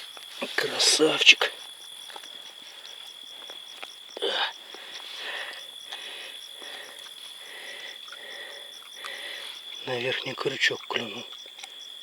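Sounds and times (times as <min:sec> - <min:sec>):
cricket chirping in quick pulses: 0:00.0 - 0:12.0
cricket steady high trill: 0:00.0 - 0:12.0.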